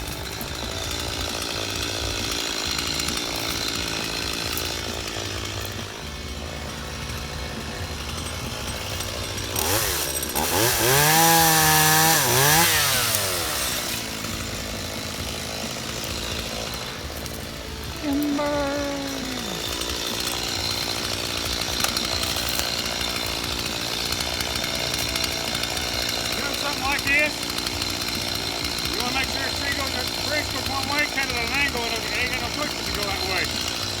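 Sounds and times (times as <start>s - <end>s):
chainsaw idling and revving: 0.0s - 34.0s.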